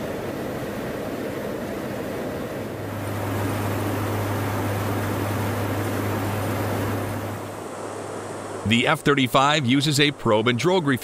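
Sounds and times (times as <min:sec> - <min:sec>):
aircraft engine and airflow drone: 0:00.0 - 0:11.0
low steady hum: 0:00.0 - 0:11.0.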